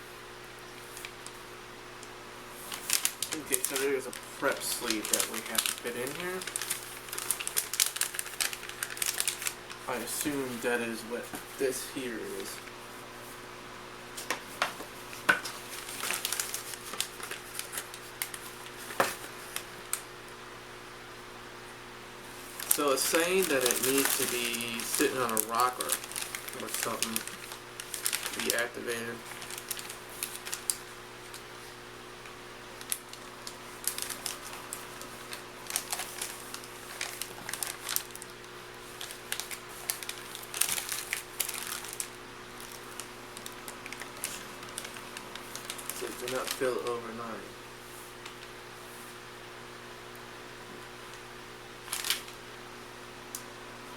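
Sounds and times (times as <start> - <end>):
plastic packaging crinkling: 2.5 - 12.8, 14.2 - 20.1, 22.3 - 49.2, 51.8 - 52.4.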